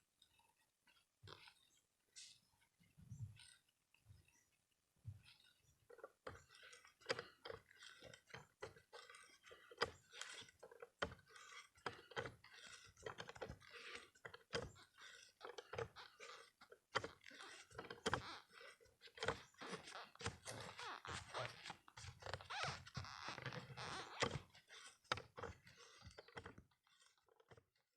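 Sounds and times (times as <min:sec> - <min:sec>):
auger bit boring into wood: 0:05.2 - 0:27.7.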